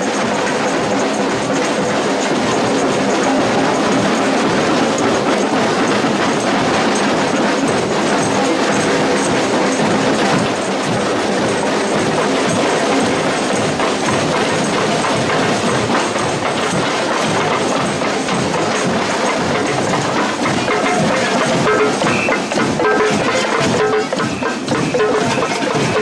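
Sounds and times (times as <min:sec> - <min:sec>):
percussion band drumming: 0:00.0 - 0:26.0.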